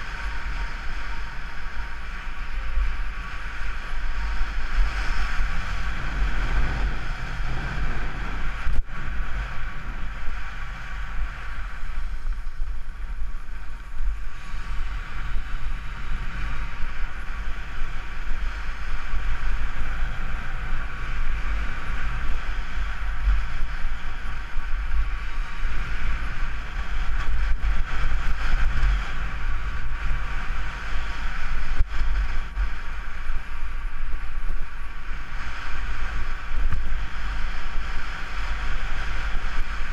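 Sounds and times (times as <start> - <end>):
skis scraping over snow: 0.0 - 39.9
wind buffeting microphone: 0.0 - 39.9.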